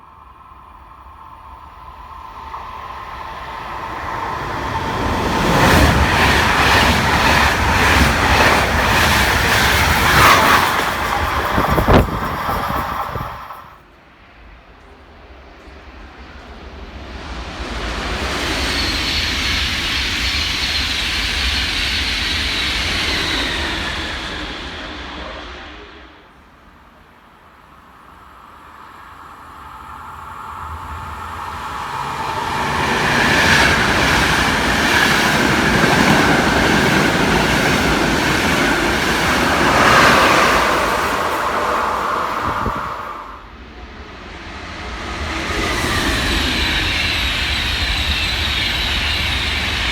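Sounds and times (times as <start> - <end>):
train whine: 0.0 - 49.9
trains passing: 0.0 - 49.9.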